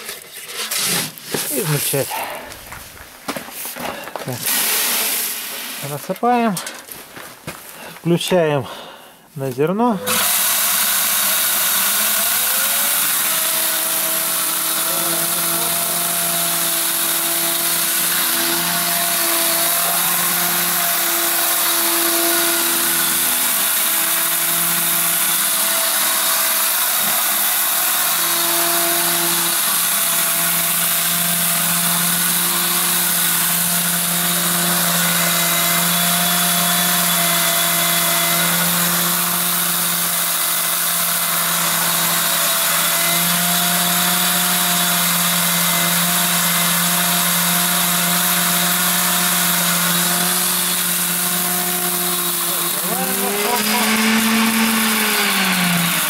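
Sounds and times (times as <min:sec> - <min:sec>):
electric grain crusher grinding: 0:04.2 - 0:06.3, 0:09.9 - 0:56.0.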